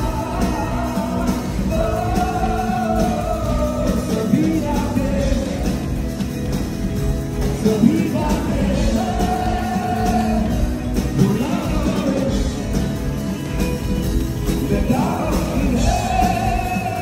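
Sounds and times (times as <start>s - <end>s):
man singing into a microphone: 0.0s - 6.0s, 7.5s - 12.7s, 14.6s - 17.0s
band with electric guitars: 0.0s - 17.0s.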